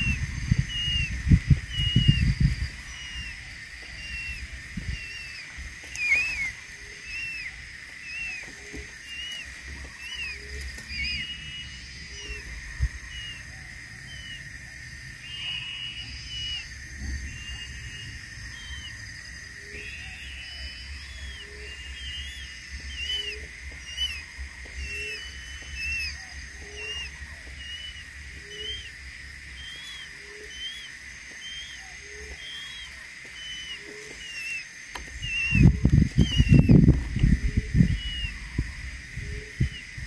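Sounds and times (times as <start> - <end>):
bird chirping: 0.0 - 40.0
high insect drone: 0.0 - 40.0.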